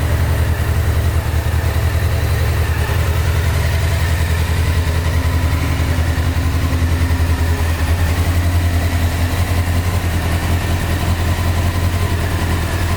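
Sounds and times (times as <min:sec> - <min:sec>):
motorcycle engine idling: 0:00.0 - 0:12.9.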